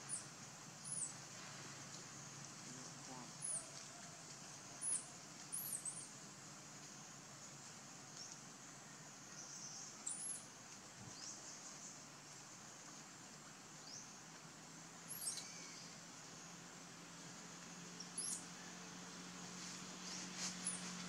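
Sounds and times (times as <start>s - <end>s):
faint high insect hiss: 0.0s - 21.0s.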